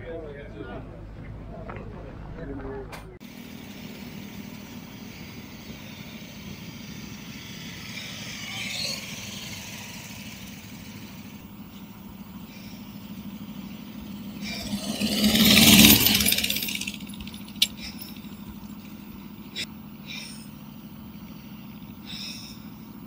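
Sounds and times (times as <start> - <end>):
steady low hum: 0.0 - 23.0
motor vehicle passing: 3.2 - 23.0.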